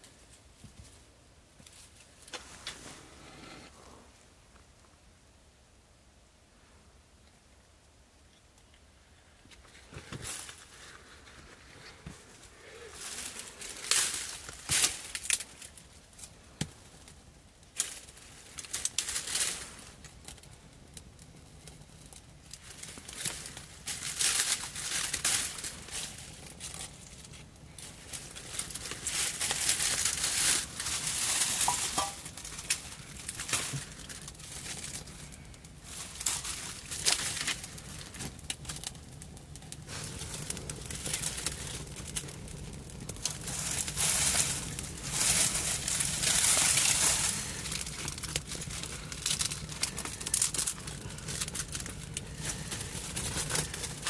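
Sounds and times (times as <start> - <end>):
rustling and crinkling: 0.0 - 5.0, 8.6 - 54.0.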